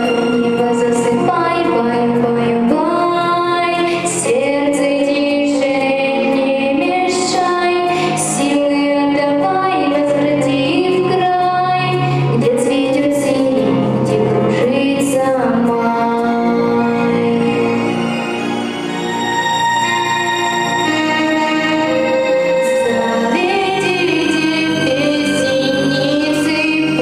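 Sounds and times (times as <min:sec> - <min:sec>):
woman singing into a microphone: 0:00.0 - 0:18.0, 0:20.8 - 0:27.0
instrumental accompaniment: 0:00.0 - 0:27.0.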